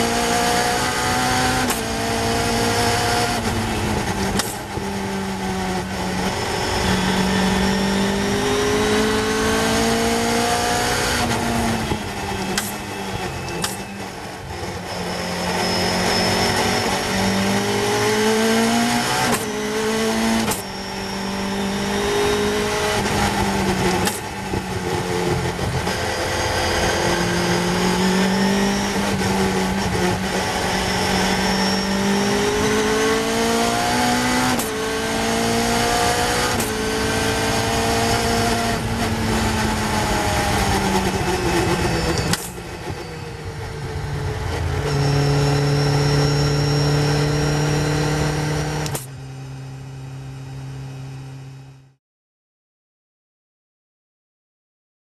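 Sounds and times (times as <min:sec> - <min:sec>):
racing car engine through gears: 0:00.0 - 0:52.0.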